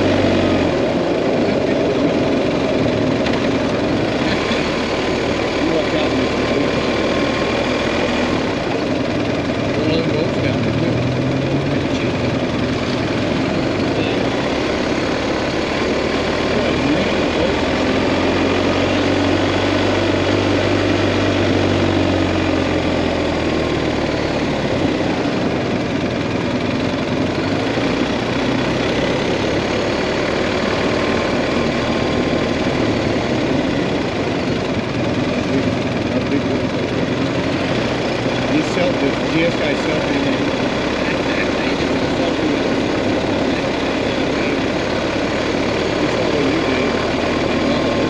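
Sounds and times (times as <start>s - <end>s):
motorcycle engine running: 0.0s - 48.0s
road and wind noise: 0.0s - 48.0s.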